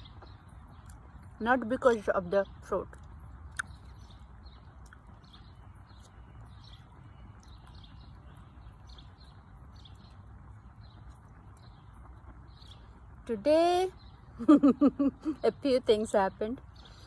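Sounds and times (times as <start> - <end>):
low outdoor rumble: 0.0 - 17.0
small bird chirping: 0.0 - 17.0.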